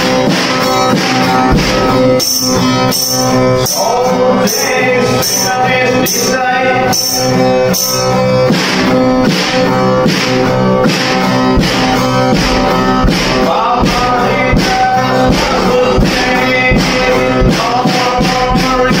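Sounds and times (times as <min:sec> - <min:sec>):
acoustic guitar strumming: 0:00.0 - 0:19.0
high percussion hits: 0:00.0 - 0:19.0.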